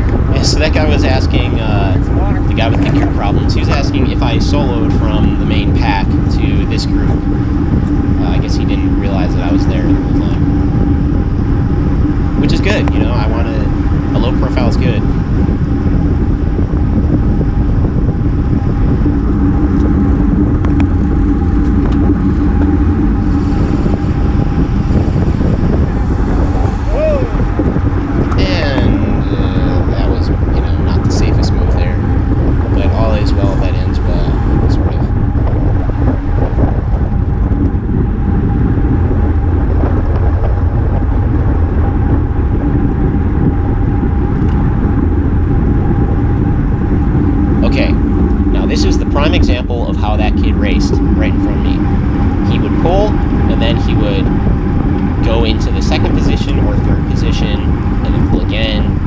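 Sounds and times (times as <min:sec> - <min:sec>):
bike tyres on road: 0:00.0 - 0:59.0
steady hum: 0:00.0 - 0:59.0
wind rumble: 0:00.0 - 0:59.0.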